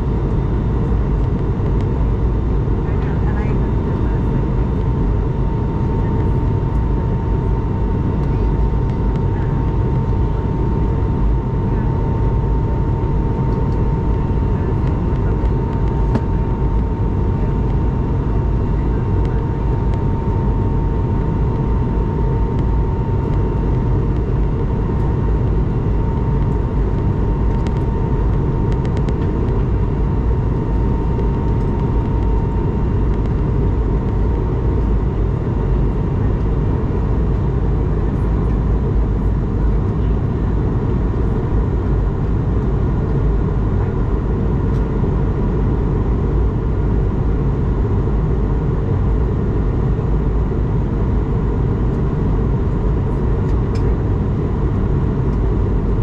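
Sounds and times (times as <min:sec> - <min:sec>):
airliner cabin engine drone: 0:00.0 - 0:56.0
thin steady whine: 0:00.0 - 0:56.0.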